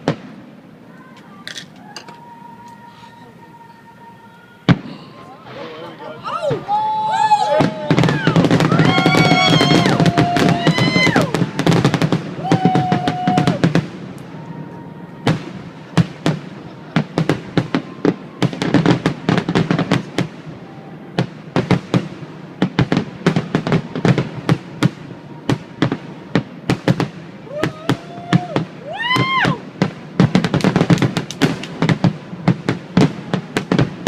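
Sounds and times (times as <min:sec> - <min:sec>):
fireworks bangs: 0:00.0 - 0:34.0
fireworks crackling pops: 0:00.0 - 0:34.0.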